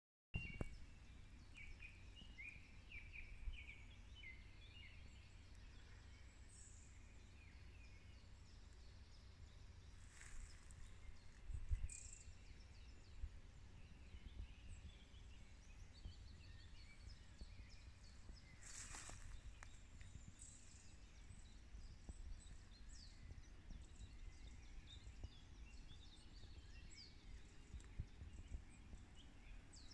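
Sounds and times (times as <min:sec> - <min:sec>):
faint birdsong chirping: 0:00.4 - 0:29.9
low rumble on microphone: 0:00.4 - 0:29.9.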